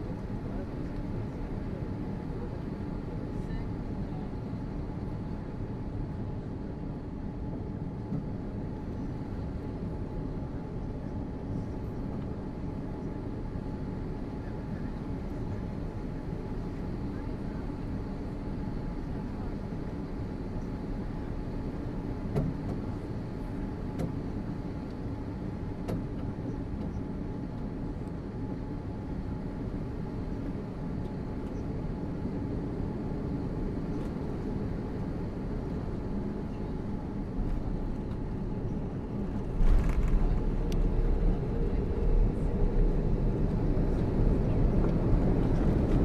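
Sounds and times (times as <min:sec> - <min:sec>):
airliner cabin engine rumble: 0:00.0 - 0:46.0.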